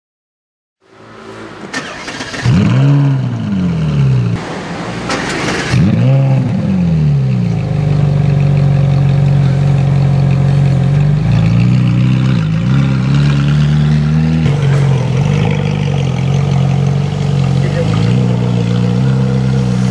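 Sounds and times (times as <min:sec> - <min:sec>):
car engine starting and revving: 0:00.9 - 0:19.9
car engine idling: 0:01.4 - 0:19.9.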